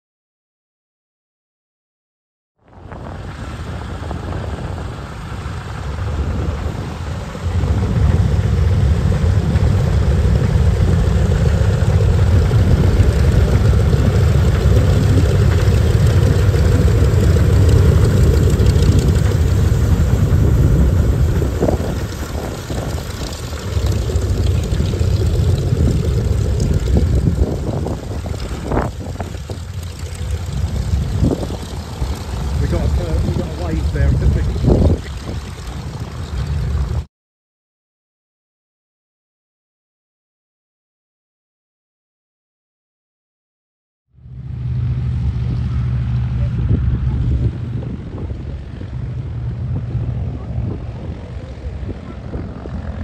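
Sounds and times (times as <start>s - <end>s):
propeller engines rumbling: 2.6s - 37.1s, 44.2s - 53.0s.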